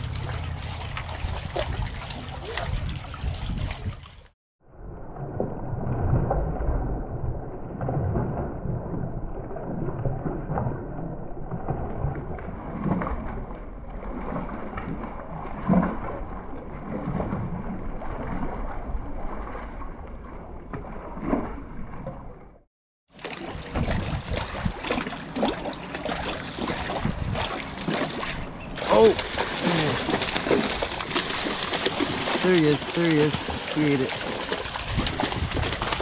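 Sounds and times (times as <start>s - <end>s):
muffled water splashing: 0.0s - 36.0s.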